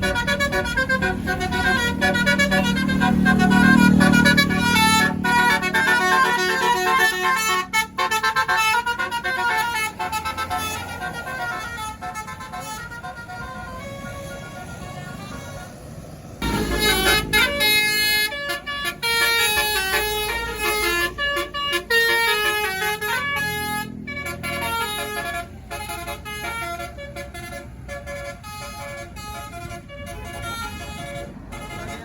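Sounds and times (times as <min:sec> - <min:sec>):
multi-tone musical bus horn melody: 0:00.0 - 0:32.0.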